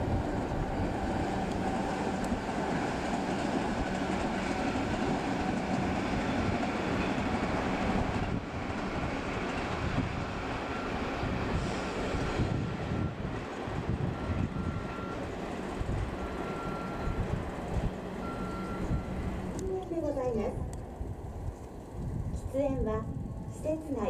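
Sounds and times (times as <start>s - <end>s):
train wheels on rail: 0.0s - 24.0s.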